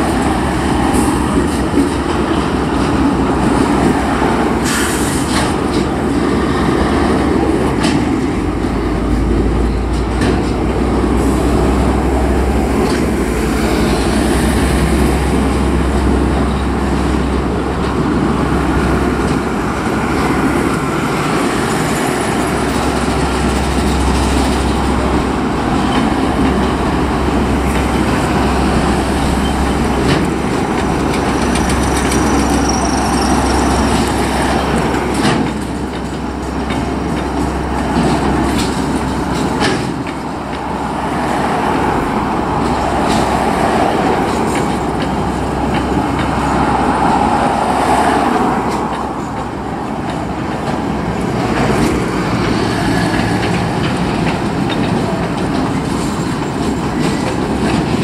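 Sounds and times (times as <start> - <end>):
freight train rumbling past: 0.0 - 58.0
wheel clacks over rail joints: 7.1 - 41.4, 42.1 - 58.0.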